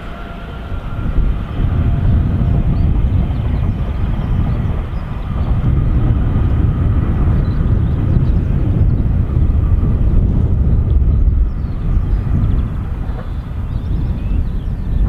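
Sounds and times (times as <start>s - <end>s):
trains rumbling: 0.0s - 15.0s.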